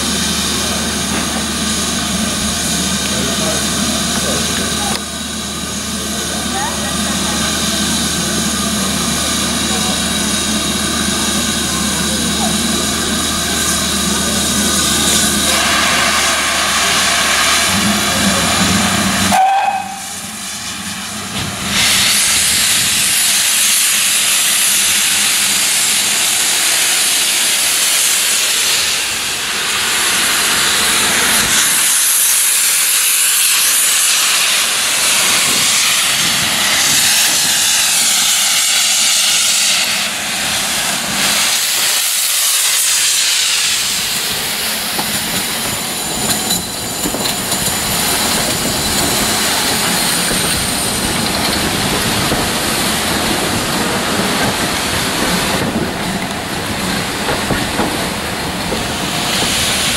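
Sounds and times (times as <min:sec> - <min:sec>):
steam hissing: 0:00.0 - 0:59.9
steam locomotive pitched sound: 0:00.0 - 0:59.9.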